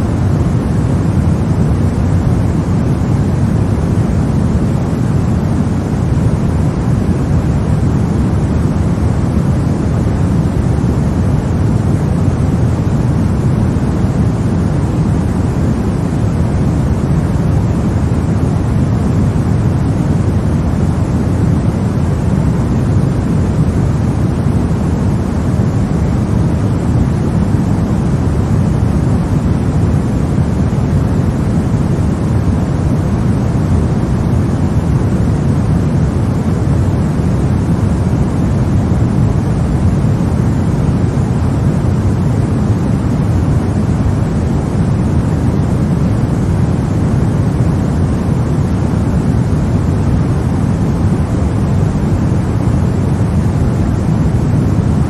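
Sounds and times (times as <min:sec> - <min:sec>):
low brown noise hiss-rumble: 0:00.0 - 0:55.0.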